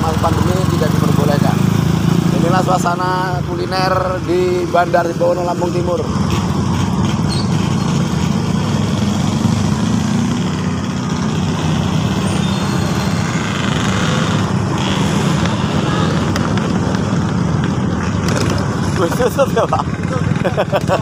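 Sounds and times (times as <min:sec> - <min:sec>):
vehicle engines humming: 0:00.0 - 0:21.0.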